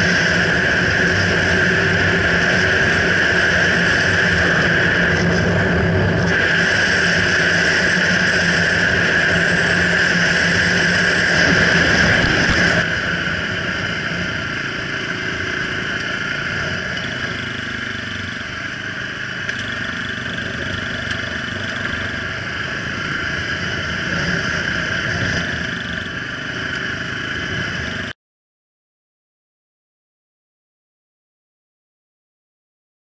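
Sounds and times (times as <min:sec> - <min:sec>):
vehicle driving on gravel road: 0:00.0 - 0:28.1.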